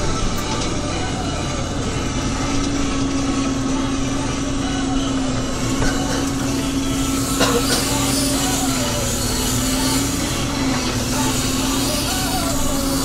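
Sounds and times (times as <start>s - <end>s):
steady whine: 0.0s - 13.0s
tractor engine running: 0.0s - 13.0s.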